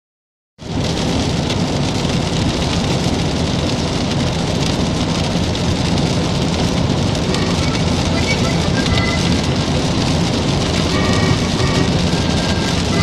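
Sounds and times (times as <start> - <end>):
heavy rain falling: 0.6 - 13.0
low rumble: 0.6 - 13.0.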